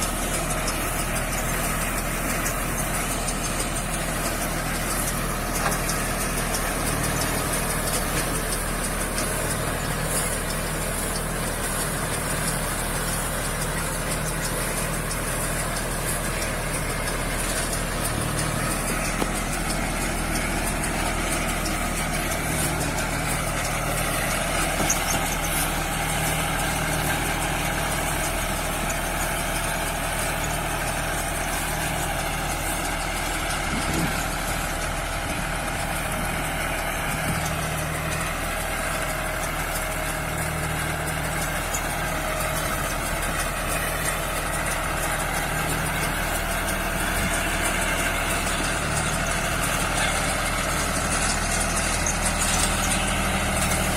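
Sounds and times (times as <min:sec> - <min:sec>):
straw baler clatter: 0:00.0 - 0:53.9
tractor engine running: 0:00.0 - 0:53.9.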